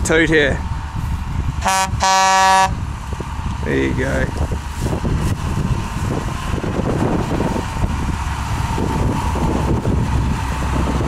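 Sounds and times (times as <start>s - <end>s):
diesel truck engine rumbling: 0.0s - 11.0s
wind buffeting microphone: 0.0s - 11.0s.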